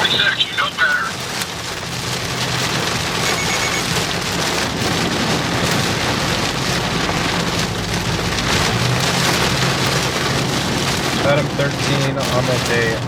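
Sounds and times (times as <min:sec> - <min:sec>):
heavy rain on vehicle: 0:00.0 - 0:13.0
low vehicle hum: 0:00.0 - 0:13.0.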